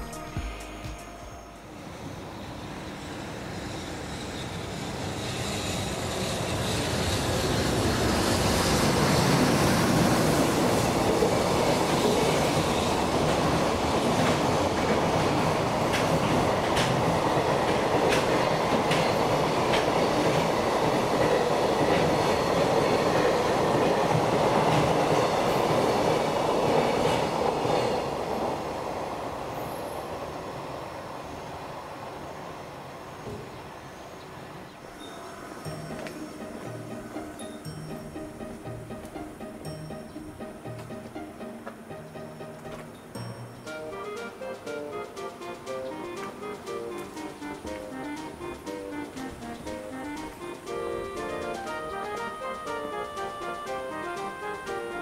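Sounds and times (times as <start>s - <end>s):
train running past: 0.0s - 55.0s
sharp clicks from train wheels: 3.6s - 29.8s, 35.6s - 55.0s.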